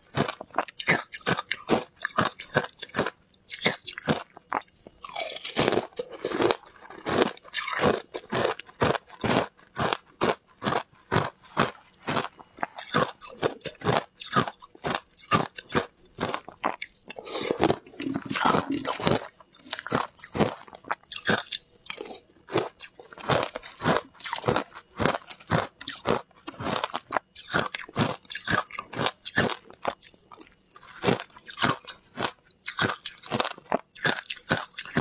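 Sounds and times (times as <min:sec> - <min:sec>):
teeth crunching shaved ice: 0:00.0 - 0:35.0.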